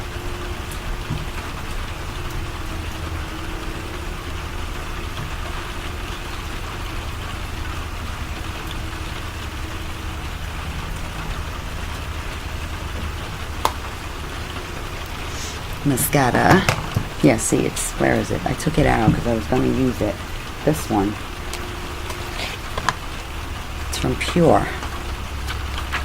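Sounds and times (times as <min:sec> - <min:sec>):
low steady hum: 0:00.0 - 0:26.0
steady rain falling: 0:00.0 - 0:26.0.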